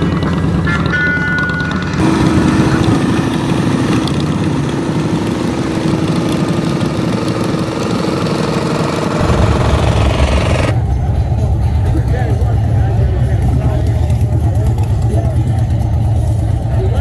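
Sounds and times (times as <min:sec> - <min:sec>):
motorcycle engine idling: 0:00.0 - 0:11.2, 0:11.8 - 0:17.0
deep engine rumble: 0:00.0 - 0:17.0.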